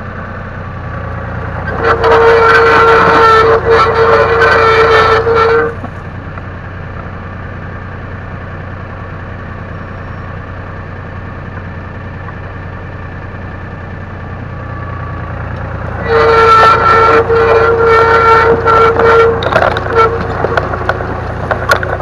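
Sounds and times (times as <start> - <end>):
diesel tractor engine under load: 0.0 - 22.0
engine idling: 0.0 - 22.0.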